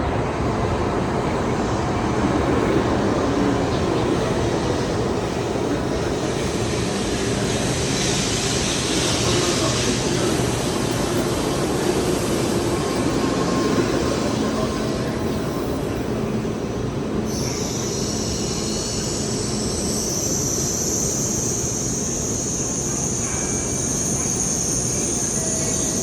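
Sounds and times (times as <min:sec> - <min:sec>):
bullet train rushing rail noise: 0:00.0 - 0:26.0
high hiss: 0:04.3 - 0:26.0.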